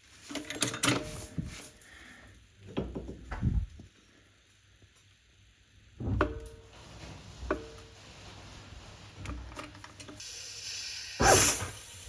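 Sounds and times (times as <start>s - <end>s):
soft hiss: 1.0s - 12.0s.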